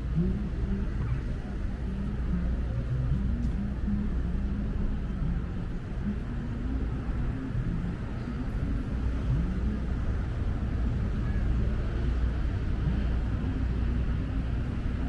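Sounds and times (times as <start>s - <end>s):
crowd murmur: 0.0s - 15.0s.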